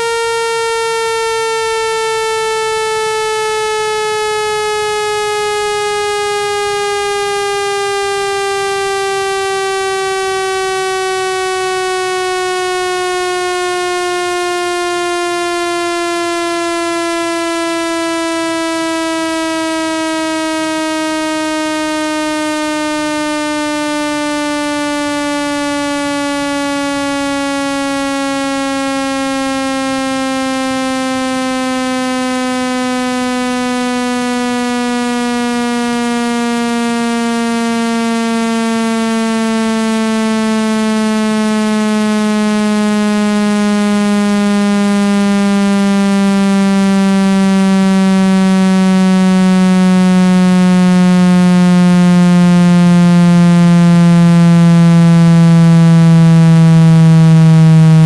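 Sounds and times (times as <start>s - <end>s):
buzzy electronic tone sliding down: 0.0s - 58.0s.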